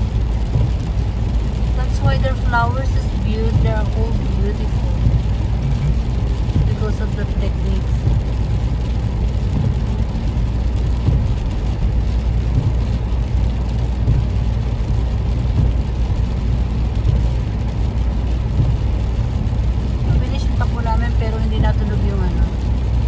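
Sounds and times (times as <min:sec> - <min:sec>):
car engine and tyres rumbling: 0:00.0 - 0:23.0
rain on windscreen: 0:00.0 - 0:23.0.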